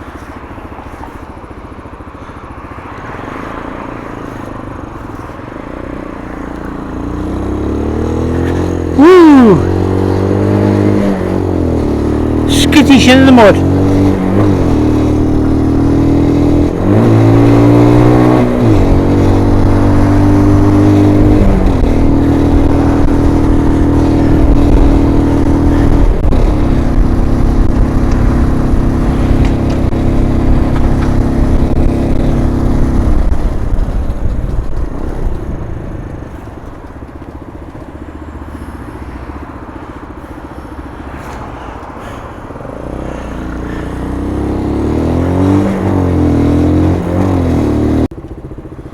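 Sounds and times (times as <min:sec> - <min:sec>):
motorcycle engine shifting gears: 0:00.0 - 0:48.9.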